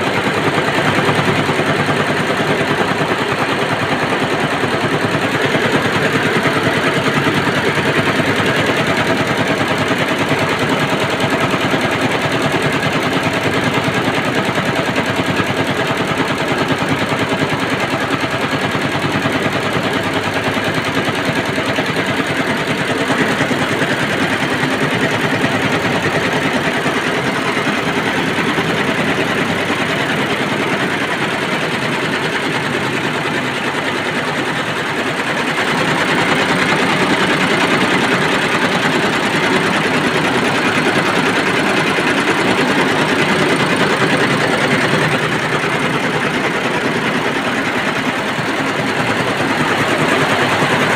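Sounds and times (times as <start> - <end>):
embroidery machine clattering: 0.0 - 50.9.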